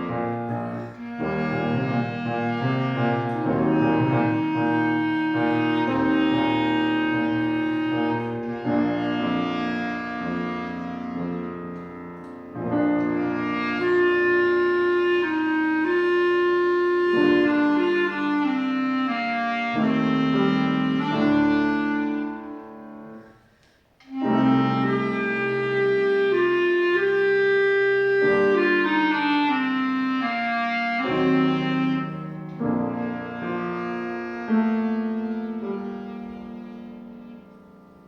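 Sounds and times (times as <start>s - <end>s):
piano accompaniment: 0.0s - 38.0s
solo instrument melody: 0.0s - 38.0s.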